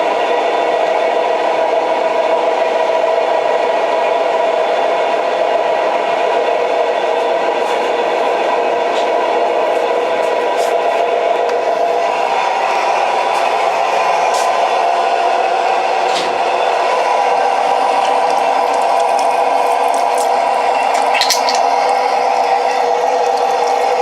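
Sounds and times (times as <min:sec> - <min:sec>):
train rumbling and rattling on rails: 0:00.0 - 0:24.0.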